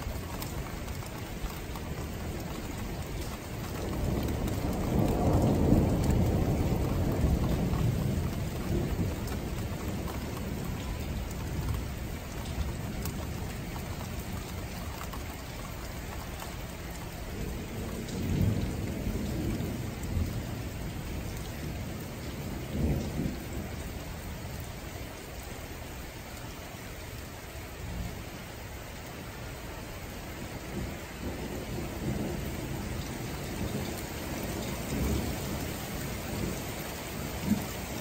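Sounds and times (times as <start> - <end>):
thunder rumbling: 0.0 - 25.2, 30.2 - 38.0
steady rain falling: 0.0 - 38.0.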